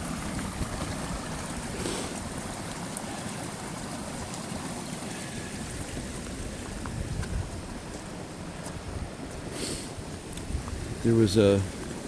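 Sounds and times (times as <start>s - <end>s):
water flowing in a stream: 0.0s - 12.0s.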